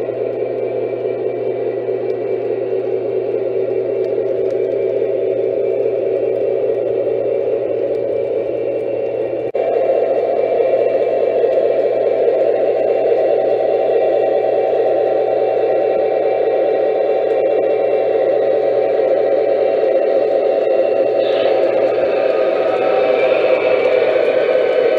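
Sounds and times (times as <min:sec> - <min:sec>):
low hum: 0:00.0 - 0:24.9.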